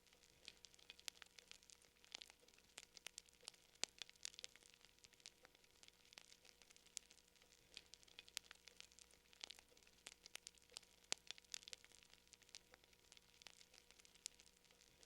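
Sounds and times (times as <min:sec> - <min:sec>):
faint fire crackling: 0:00.0 - 0:15.0
soft hiss: 0:00.0 - 0:15.0.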